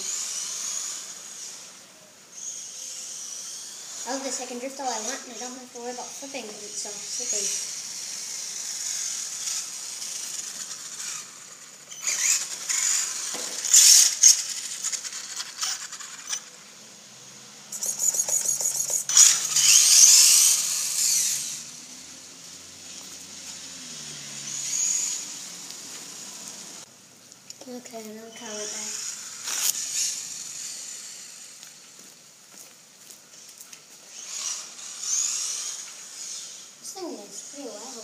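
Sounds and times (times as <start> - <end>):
electric motor whining: 0.0 - 26.9, 27.7 - 32.2, 33.4 - 38.0.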